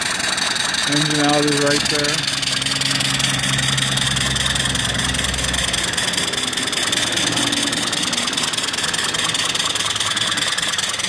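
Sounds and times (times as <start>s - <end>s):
steam engine chuffing: 0.0s - 11.0s
low hum: 0.8s - 10.8s.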